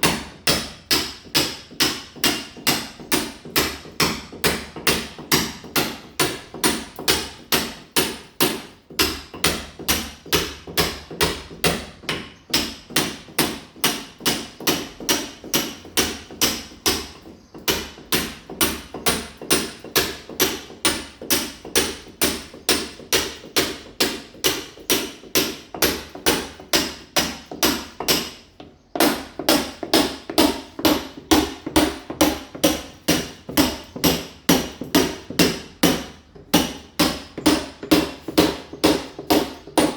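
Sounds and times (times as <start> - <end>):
hammer striking a wall: 0.0 - 39.9.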